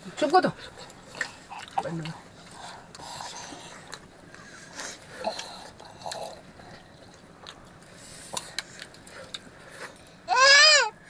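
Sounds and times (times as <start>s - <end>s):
chewing: 0.6s - 10.2s.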